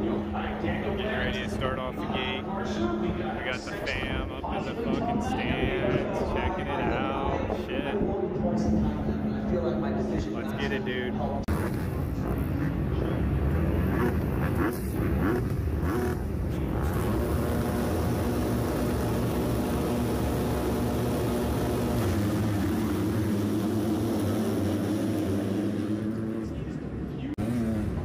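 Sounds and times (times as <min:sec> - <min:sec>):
dirt bike engines revving: 0:00.0 - 0:08.0, 0:10.2 - 0:28.0.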